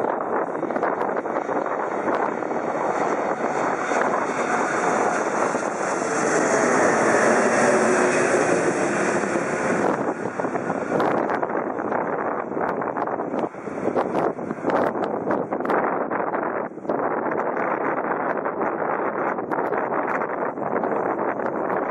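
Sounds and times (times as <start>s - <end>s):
jet airliner passing overhead: 0.0s - 19.4s.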